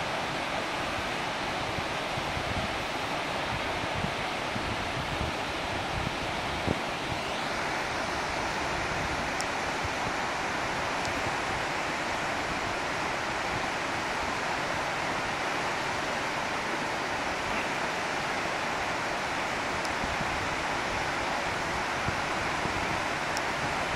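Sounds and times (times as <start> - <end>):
waterfall and stream rushing: 0.0 - 23.9.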